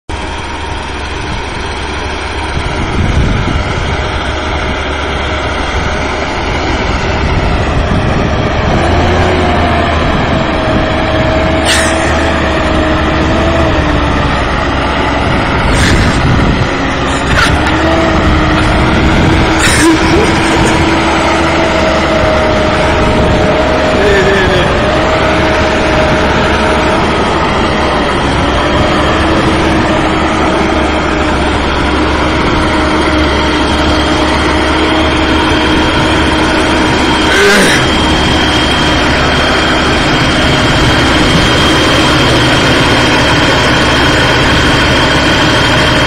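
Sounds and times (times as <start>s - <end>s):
steady whine: 0.1s - 46.0s
tractor engine working hard: 0.1s - 46.0s.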